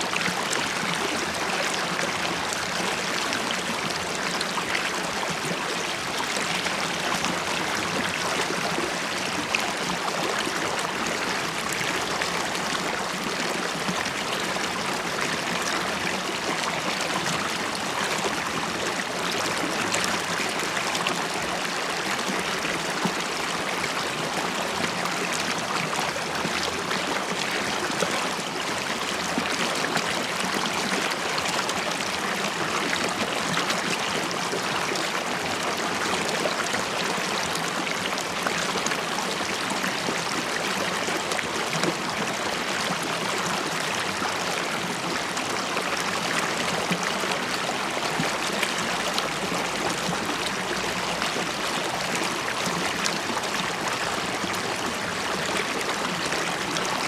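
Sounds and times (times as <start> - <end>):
river water babbling over stones: 0.1 - 57.0.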